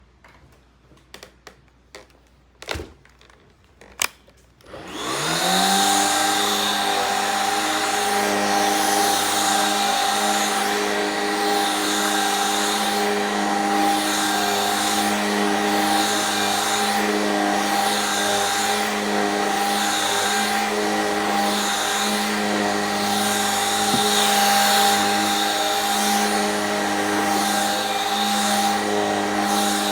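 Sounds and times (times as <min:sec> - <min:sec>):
vacuum motor whining: 0:04.6 - 0:29.9.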